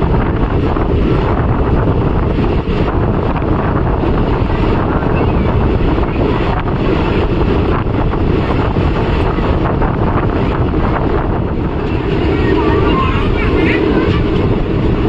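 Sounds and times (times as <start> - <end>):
train coach rumbling: 0.0 - 15.0
wind buffeting microphone: 0.0 - 15.0.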